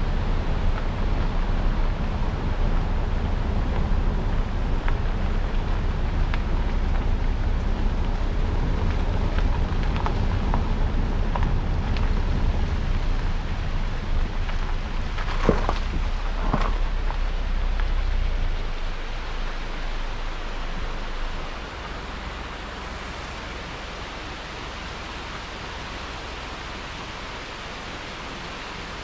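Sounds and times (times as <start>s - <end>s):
vehicle driving on rough road: 0.0s - 29.0s
wind noise: 0.0s - 29.0s.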